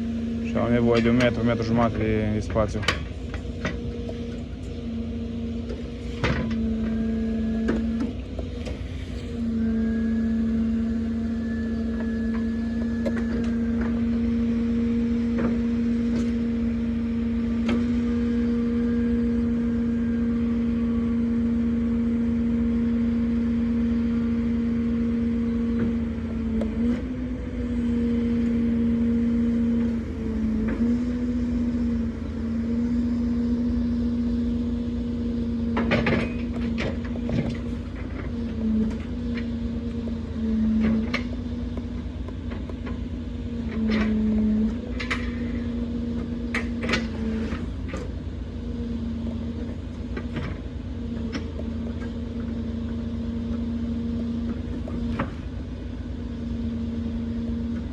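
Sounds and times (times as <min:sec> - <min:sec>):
truck engine droning hum: 0:00.0 - 0:57.9.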